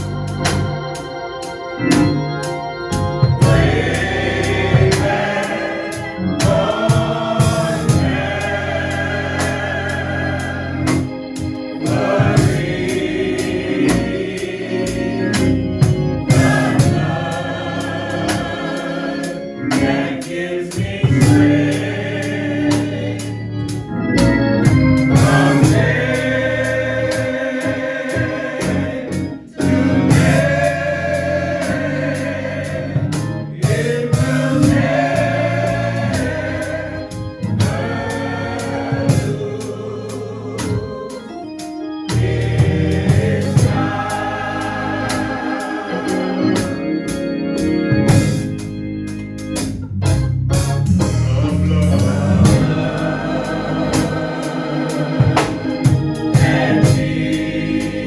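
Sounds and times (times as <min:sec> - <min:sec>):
gospel singing: 0:00.0 - 0:49.8, 0:50.6 - 0:58.0
organ and bass: 0:00.0 - 0:58.0.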